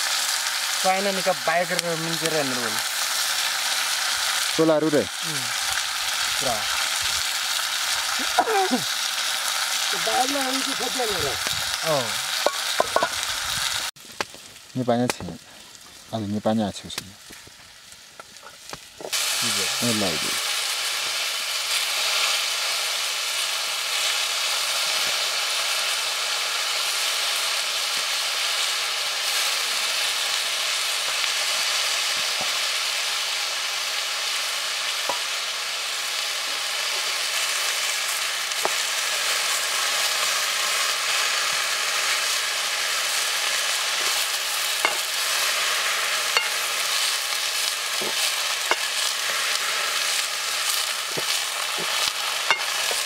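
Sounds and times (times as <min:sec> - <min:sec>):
greens sizzling in a pot: 0:00.0 - 0:53.0.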